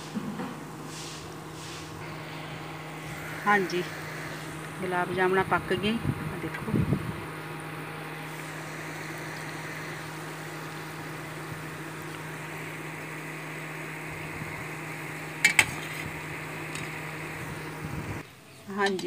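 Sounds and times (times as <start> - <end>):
oil sizzling and bubbling: 0.0 - 5.2, 7.0 - 19.0
low steady hum: 0.0 - 19.0.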